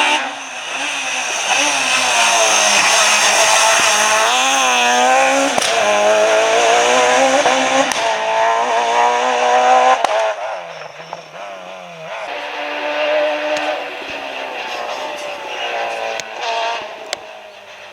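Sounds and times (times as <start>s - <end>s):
rally car engine at high revs: 0.0s - 17.9s.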